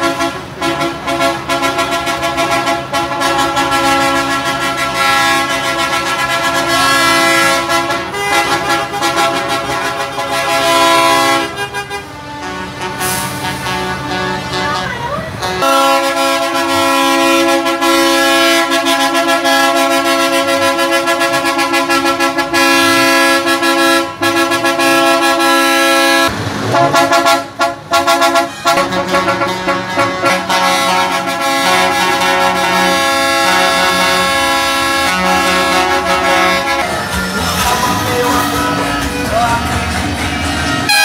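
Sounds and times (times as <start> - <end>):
truck horns blasting: 0.0 - 41.0.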